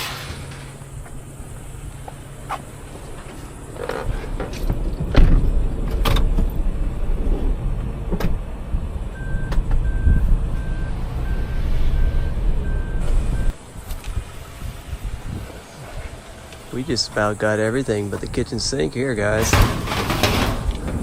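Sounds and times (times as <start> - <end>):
vehicle engine low rumble: 0.0 - 21.0.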